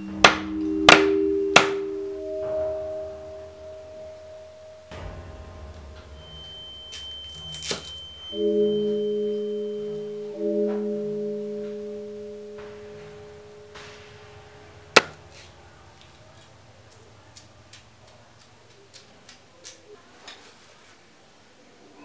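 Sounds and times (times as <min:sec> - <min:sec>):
held musical chord: 0:00.0 - 0:18.0.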